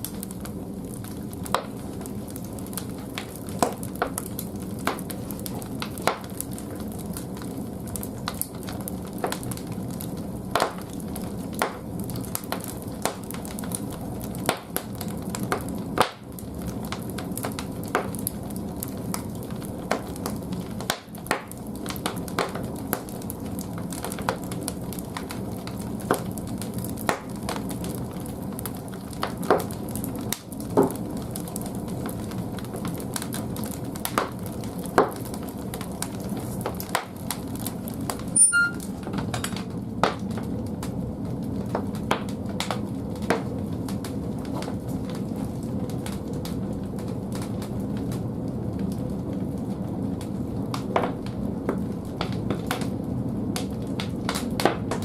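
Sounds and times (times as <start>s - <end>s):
firewood crackling and popping: 0.0s - 55.0s
low fire rumble: 0.0s - 55.0s.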